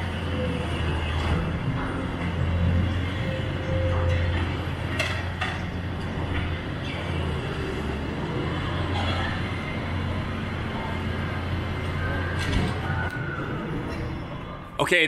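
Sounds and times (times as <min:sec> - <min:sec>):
diesel engines droning: 0:00.0 - 0:15.0.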